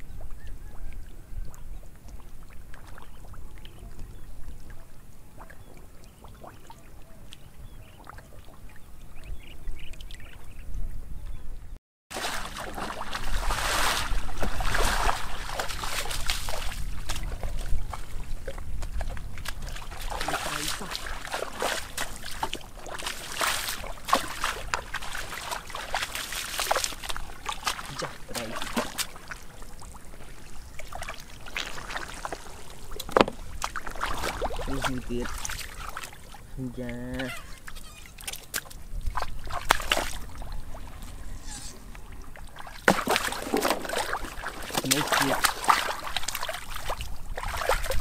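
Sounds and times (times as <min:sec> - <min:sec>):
splashing in shallow muddy water: 0:00.1 - 0:08.9, 0:12.1 - 0:48.0.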